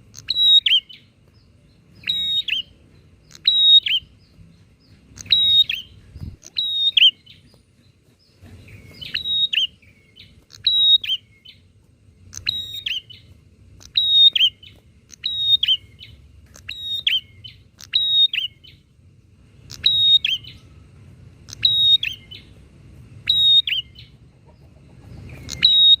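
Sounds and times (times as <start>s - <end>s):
bird calling: 0.0s - 1.2s, 1.9s - 18.9s, 19.6s - 20.8s, 21.4s - 22.6s, 23.2s - 26.0s
faint low hum: 0.0s - 26.0s.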